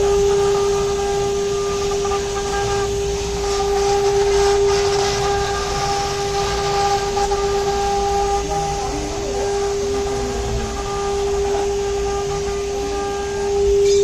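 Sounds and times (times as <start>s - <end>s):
constant hiss: 0.0s - 14.0s
spindle whine: 0.0s - 14.0s.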